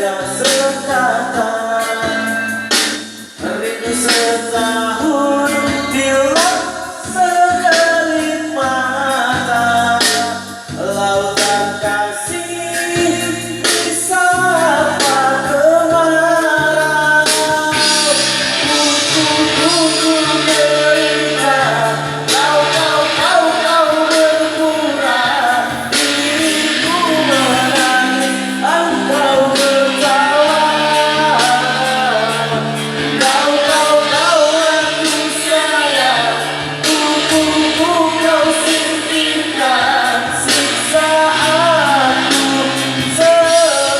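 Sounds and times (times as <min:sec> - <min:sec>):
instrumental accompaniment: 0:00.0 - 0:43.9
person singing: 0:00.0 - 0:43.9.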